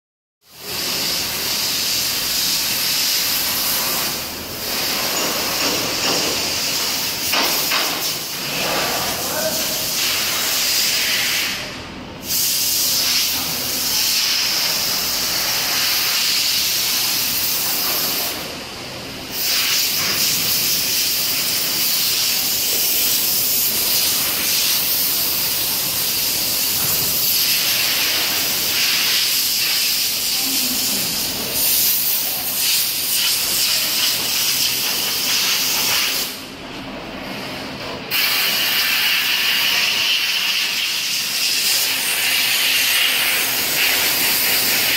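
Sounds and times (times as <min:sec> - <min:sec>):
laser cutter gas jet hissing: 0:00.6 - 0:18.4, 0:19.3 - 0:36.4, 0:38.1 - 0:44.9.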